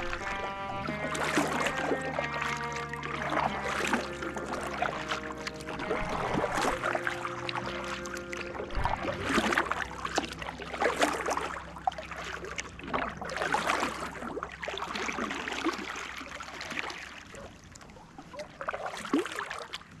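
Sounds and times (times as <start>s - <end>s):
water splashing against kayak: 0.0s - 20.0s.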